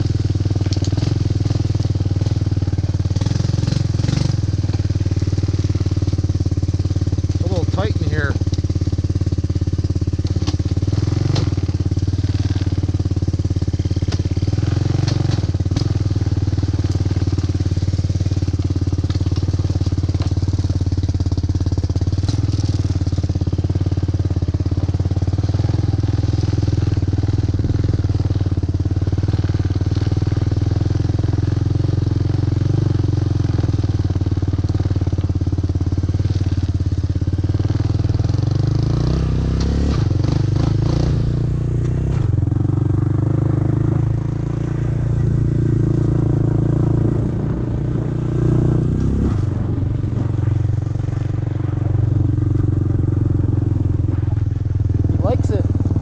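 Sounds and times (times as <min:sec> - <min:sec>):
atv engine droning: 0:00.0 - 0:56.0.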